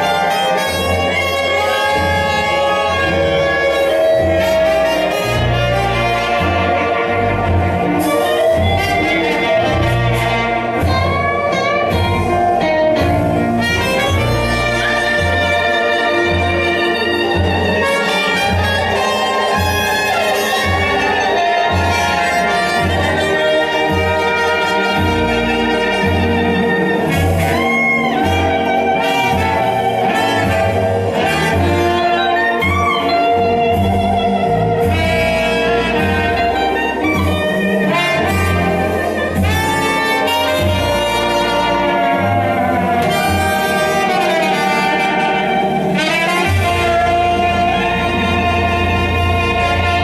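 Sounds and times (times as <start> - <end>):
jazz-blues band playing: 0.0 - 50.0
saxophone: 0.0 - 50.0.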